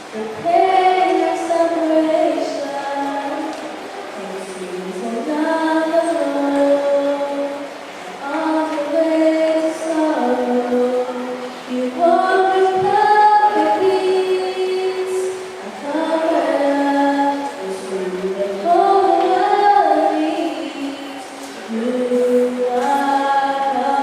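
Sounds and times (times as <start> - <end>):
voices singing in harmony: 0.0 - 24.0.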